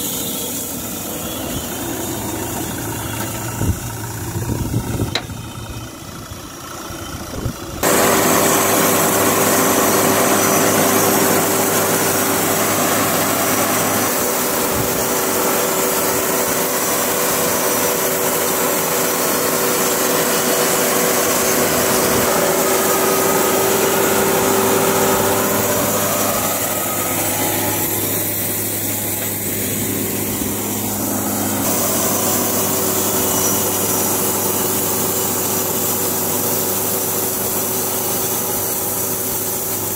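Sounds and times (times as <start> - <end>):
band saw cutting wood: 0.0 - 5.4, 7.8 - 39.9
sawmill engine running: 0.0 - 39.9
steady saw whine: 0.0 - 39.9.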